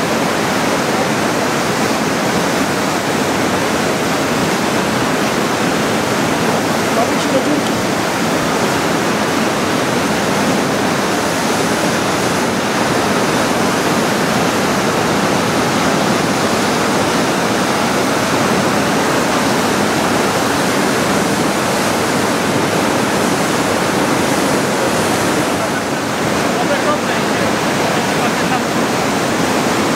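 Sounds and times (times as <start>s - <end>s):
whitewater rapid rushing: 0.0s - 29.9s.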